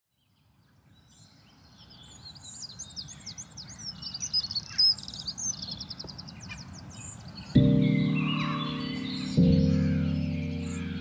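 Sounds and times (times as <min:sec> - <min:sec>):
birds chirping and warbling: 0:00.2 - 0:11.0.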